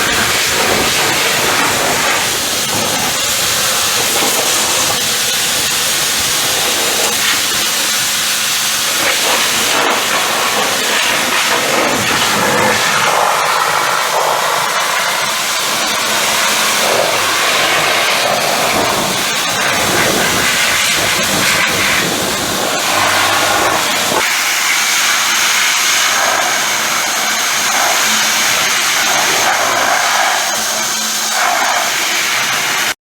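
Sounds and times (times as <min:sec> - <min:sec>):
pressure washer jet hissing: 0:00.0 - 0:33.0.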